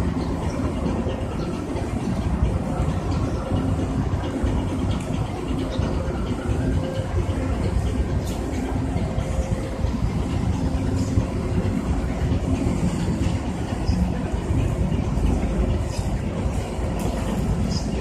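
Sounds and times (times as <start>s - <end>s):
boat diesel engine rumble: 0.0s - 18.0s.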